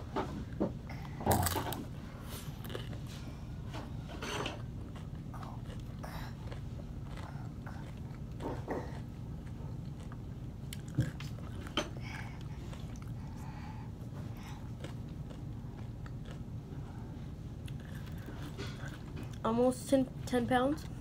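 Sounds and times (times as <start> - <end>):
chewing crunchy food: 0.9 - 19.6.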